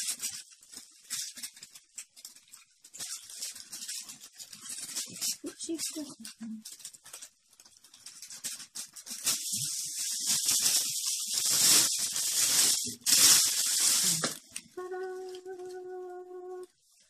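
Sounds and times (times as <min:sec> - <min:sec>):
tissue paper rustling: 0:00.0 - 0:17.0.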